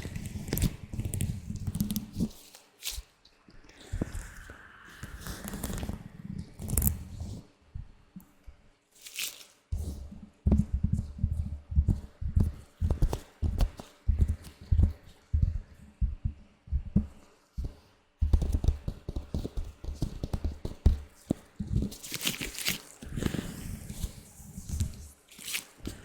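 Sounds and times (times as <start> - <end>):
latex gloves rustling: 0.0 - 7.9, 8.9 - 26.0.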